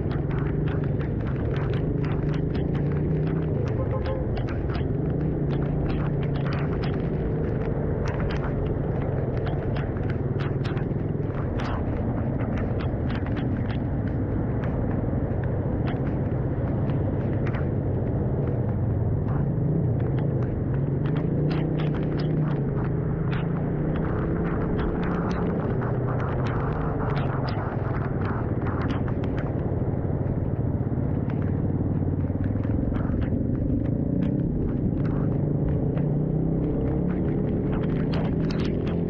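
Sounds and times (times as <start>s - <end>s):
motorcycle engine running: 0.0s - 39.0s
sharp ticks: 0.0s - 39.0s.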